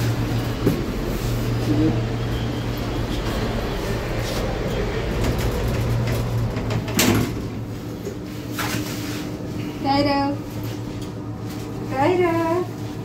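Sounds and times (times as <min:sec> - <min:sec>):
elevator hum and rumble: 0:00.0 - 0:13.0.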